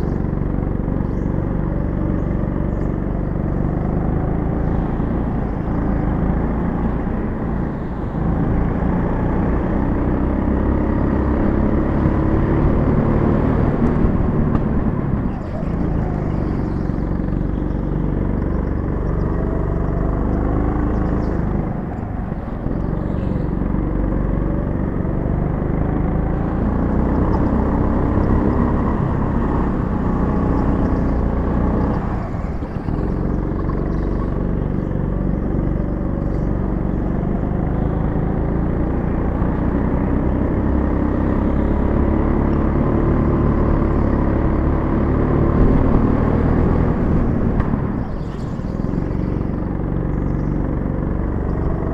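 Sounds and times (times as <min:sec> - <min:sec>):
go-kart engine running hard: 0:00.0 - 0:51.9.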